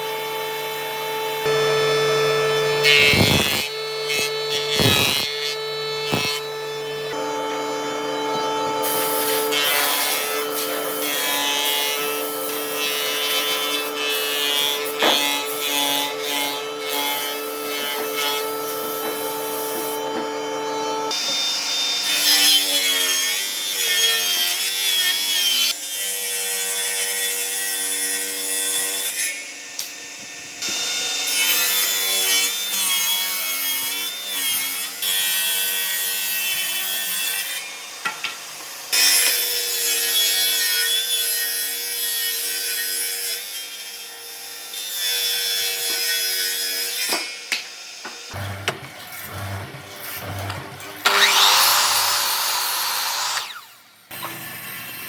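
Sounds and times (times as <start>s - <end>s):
power tool cutting wood: 0.0s - 55.0s.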